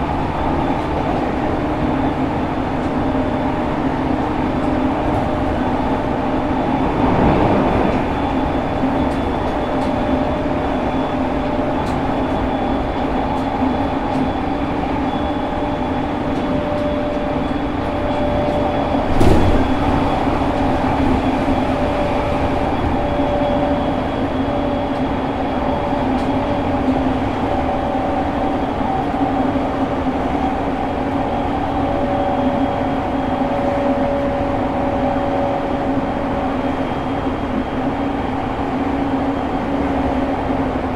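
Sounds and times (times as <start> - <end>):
train motor and gear whine: 0.0 - 40.9
wheel-on-rail rumble: 0.0 - 40.9.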